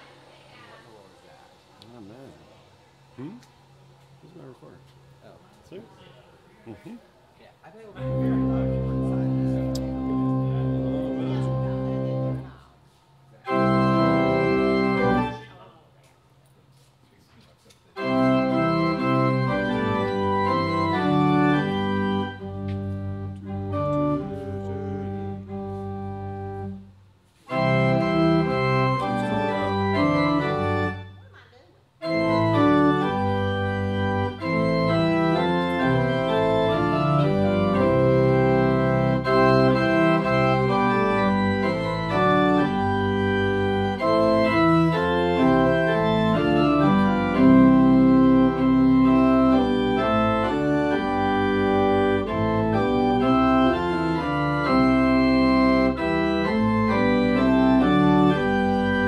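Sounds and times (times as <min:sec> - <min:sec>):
pipe organ playing: 0:08.0 - 0:12.6, 0:13.4 - 0:15.7, 0:17.9 - 0:31.3, 0:32.0 - 0:59.0.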